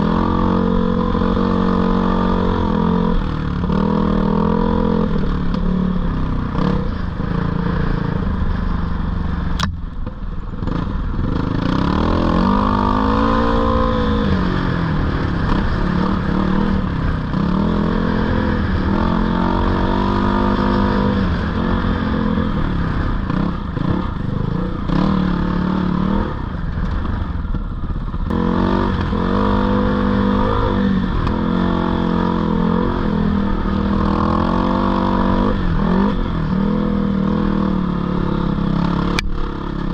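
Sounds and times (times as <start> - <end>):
dirt bike engine revving: 0.0 - 8.6, 10.6 - 27.2, 28.2 - 39.9.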